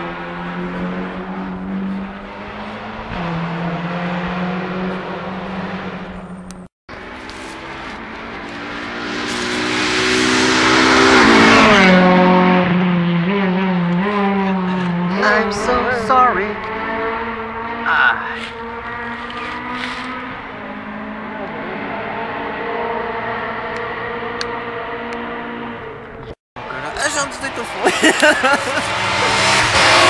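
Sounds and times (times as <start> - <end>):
rally car engine at full throttle: 0.0 - 30.0.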